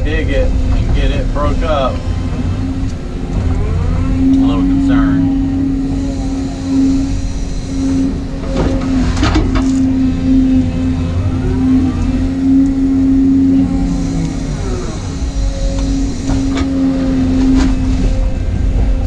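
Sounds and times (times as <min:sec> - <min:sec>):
excavator engine and hydraulics whine: 0:00.0 - 0:19.0.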